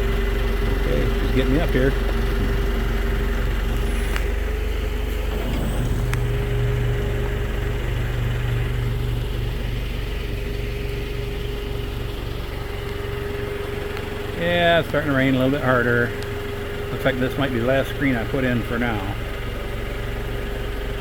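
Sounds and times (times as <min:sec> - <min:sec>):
diesel engine under load: 0:00.0 - 0:21.0.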